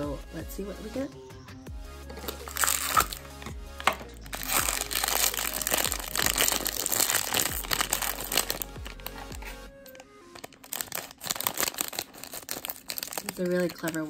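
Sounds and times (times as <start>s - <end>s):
plastic foil bag crinkling: 2.1s - 14.0s.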